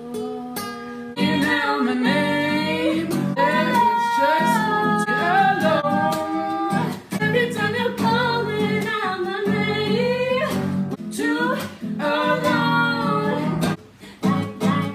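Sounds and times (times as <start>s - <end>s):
strummed classical guitar: 0.0s - 14.9s
woman singing: 0.0s - 14.9s.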